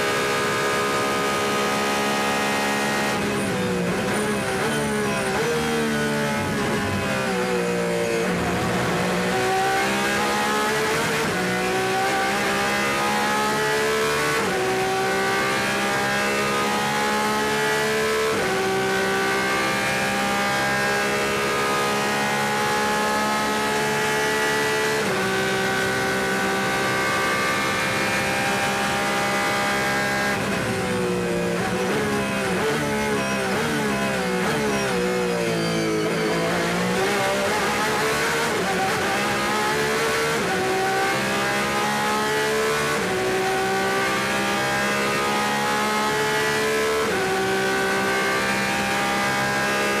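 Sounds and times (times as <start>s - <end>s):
racing engine at full throttle: 0.0s - 50.0s.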